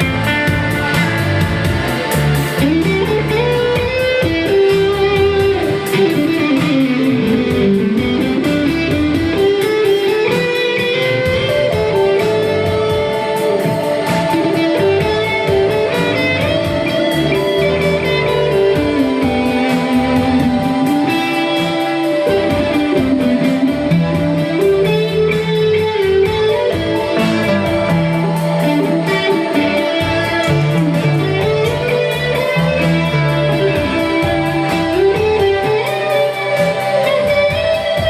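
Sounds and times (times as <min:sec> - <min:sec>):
live band with electric guitar: 0:00.0 - 0:38.0.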